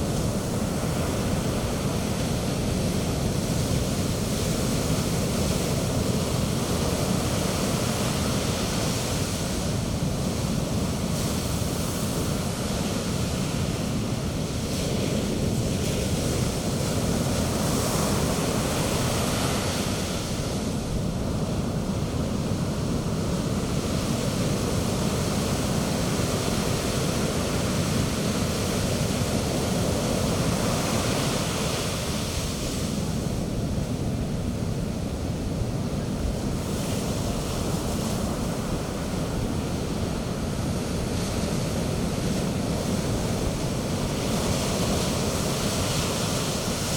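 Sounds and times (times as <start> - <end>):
sea waves breaking on beach: 0.0 - 46.9
wind rumble on microphone: 0.0 - 46.9.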